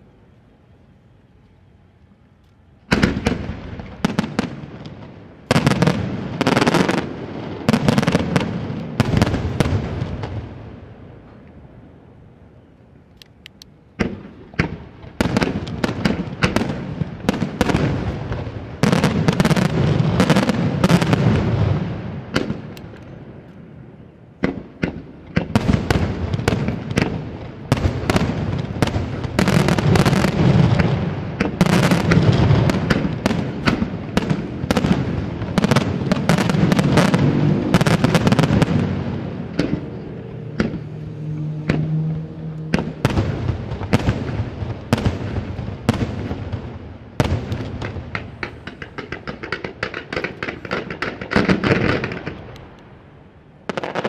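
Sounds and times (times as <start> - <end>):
fireworks bursting: 2.8 - 11.4, 13.5 - 54.0.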